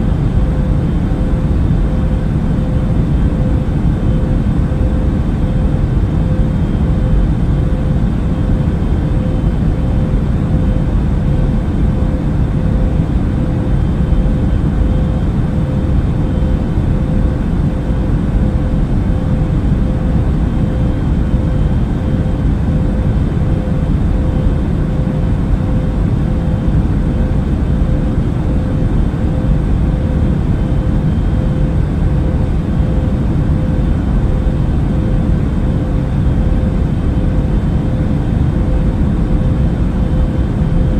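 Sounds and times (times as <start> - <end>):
airplane cabin rumble: 0.0 - 40.9
constant hum: 0.0 - 40.9.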